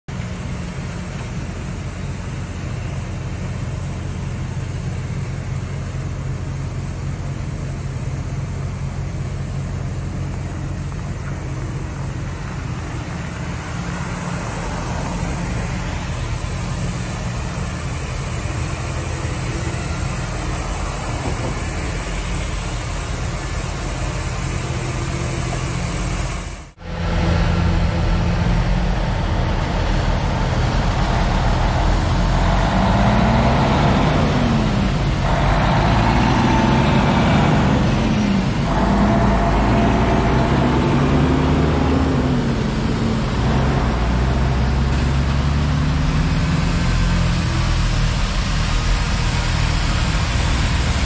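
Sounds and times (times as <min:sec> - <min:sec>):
low drone of engines: 0:00.0 - 0:51.0.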